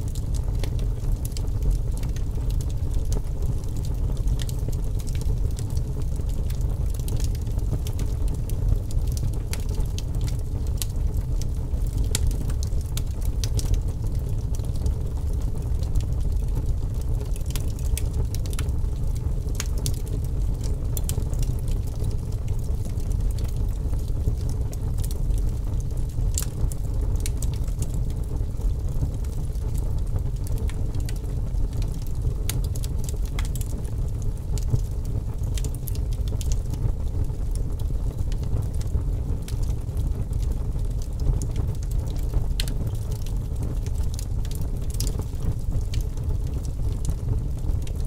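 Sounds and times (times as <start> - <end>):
fire crackling and popping: 0.0 - 48.0
fire flames rumbling: 0.0 - 48.0.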